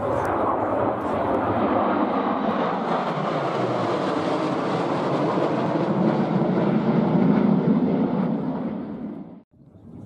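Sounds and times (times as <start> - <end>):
fighter jets flying overhead: 0.0 - 10.0.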